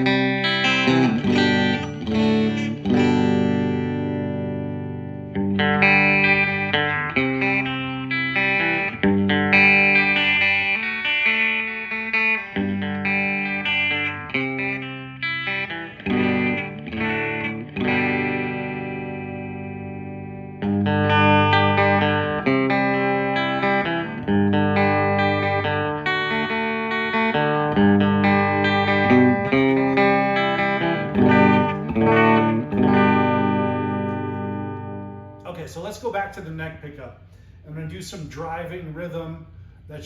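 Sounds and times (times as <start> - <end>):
electric guitar chords: 0.0 - 35.5.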